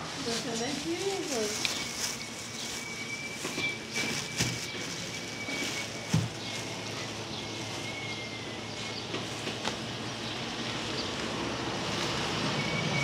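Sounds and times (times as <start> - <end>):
mechanical hum with high whine: 0.0 - 13.0.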